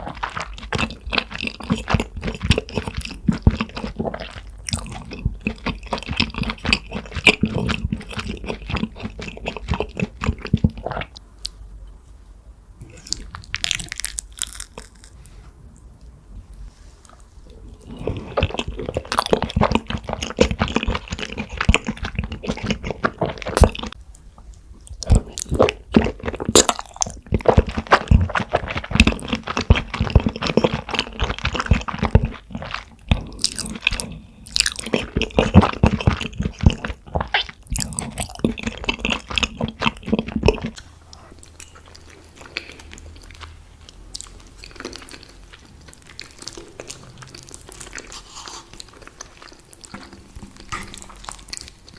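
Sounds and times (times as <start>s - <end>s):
close-miked chewing: 0.0s - 11.6s, 17.0s - 51.9s.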